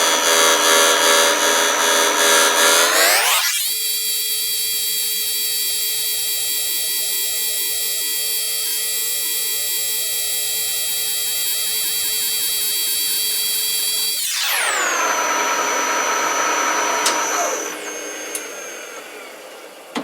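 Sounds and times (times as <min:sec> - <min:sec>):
grinder high-pitched whine: 0:00.0 - 0:20.0.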